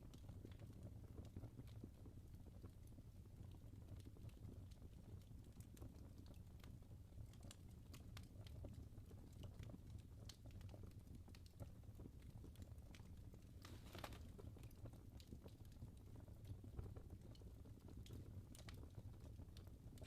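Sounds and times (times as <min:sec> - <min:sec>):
logs crackling in fireplace: 0:00.0 - 0:20.0
low fire rumble: 0:00.0 - 0:20.0.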